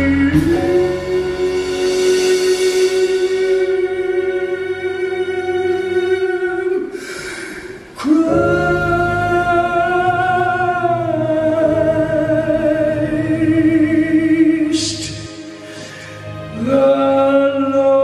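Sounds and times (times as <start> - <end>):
musical accompaniment: 0.0 - 18.0
singing with long held notes: 0.0 - 18.0.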